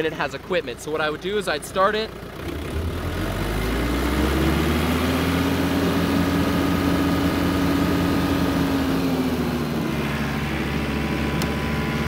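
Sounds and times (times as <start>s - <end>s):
diesel tractor engine revving: 0.0s - 12.0s.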